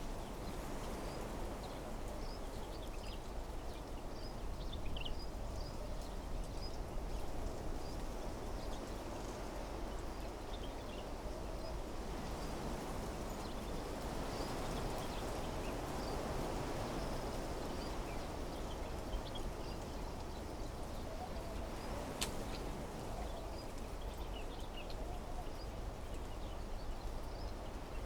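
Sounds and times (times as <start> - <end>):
wind through trees: 0.0 - 28.0.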